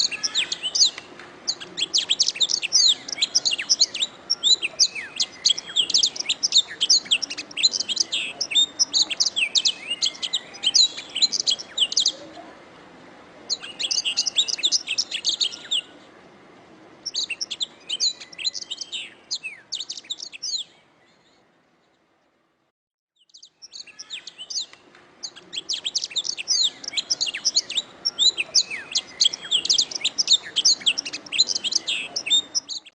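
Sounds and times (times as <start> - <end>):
canary singing trilled phrases: 0.0 - 12.3, 13.5 - 15.9, 17.0 - 20.7, 23.2 - 32.9.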